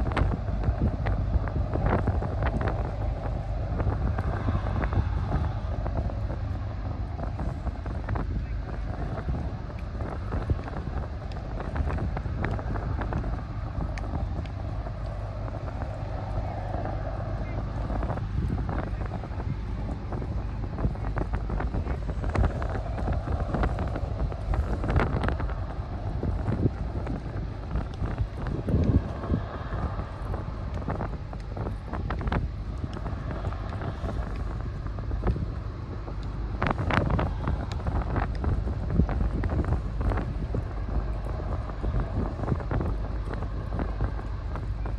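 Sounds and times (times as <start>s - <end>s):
wind rumbling on microphone: 0.0s - 44.9s.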